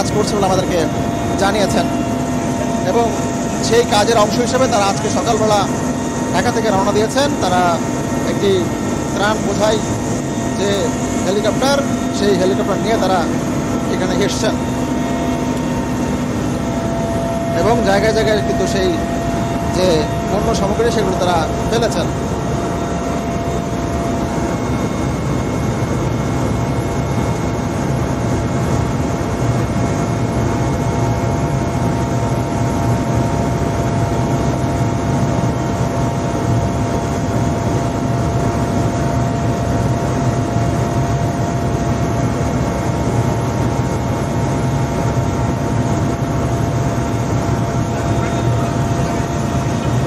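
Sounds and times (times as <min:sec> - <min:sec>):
helicopter rotor and engine drone: 0:00.0 - 0:50.0.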